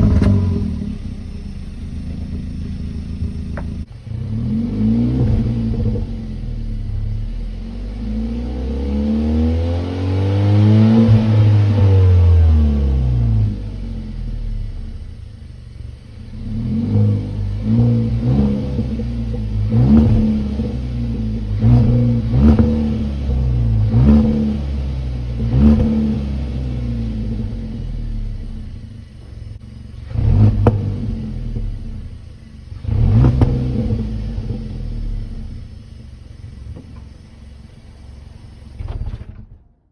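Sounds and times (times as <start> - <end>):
car engine revving: 0.0 - 39.5
car engine idling: 0.0 - 39.9.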